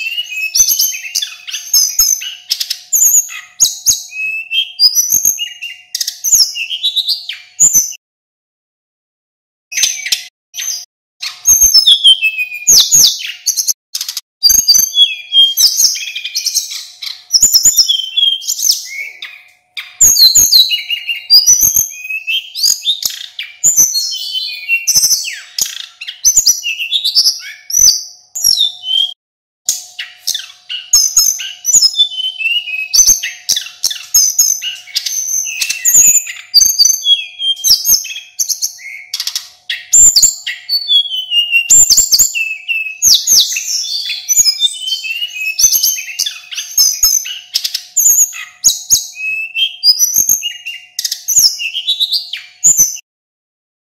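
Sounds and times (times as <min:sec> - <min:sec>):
flycatcher singing: 0:00.0 - 0:08.0, 0:09.7 - 0:53.0.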